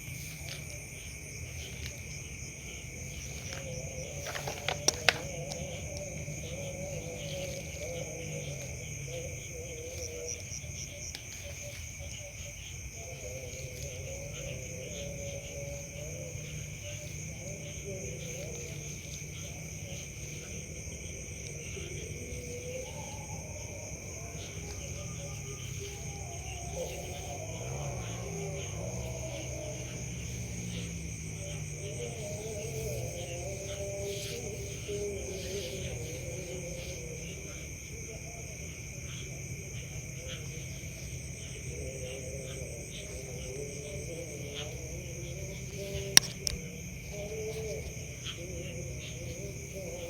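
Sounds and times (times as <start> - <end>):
crickets trilling: 0.0 - 50.0
insects chirping: 0.0 - 50.0.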